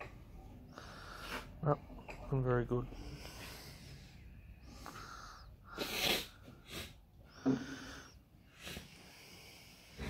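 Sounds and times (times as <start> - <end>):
person breathing and sniffing: 0.7 - 1.6, 2.8 - 10.0.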